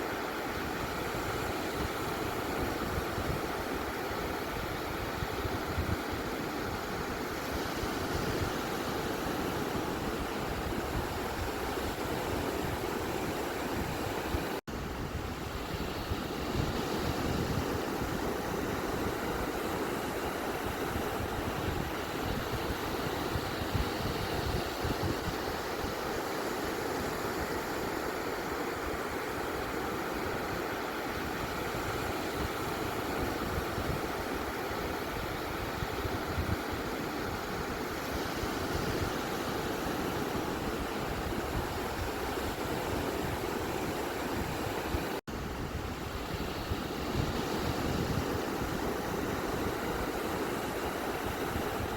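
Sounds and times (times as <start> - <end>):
ocean waves on beach: 0.0 - 51.9.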